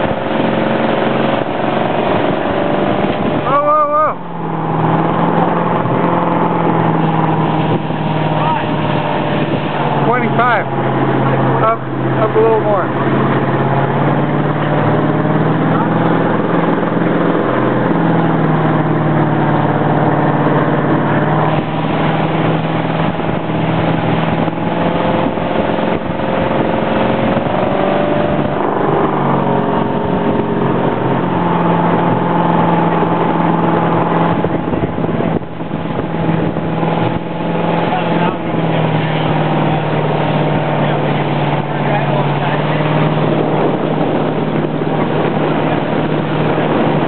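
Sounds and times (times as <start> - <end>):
motorboat engine running: 0.0 - 47.0
water noise over hull: 0.0 - 47.0
wind noise: 0.0 - 47.0.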